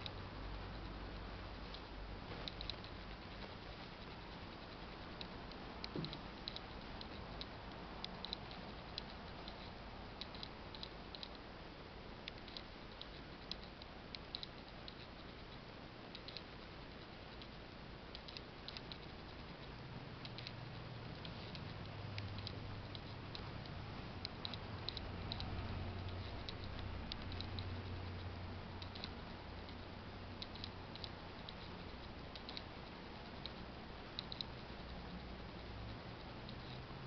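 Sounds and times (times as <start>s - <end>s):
room hiss: 0.0s - 37.0s.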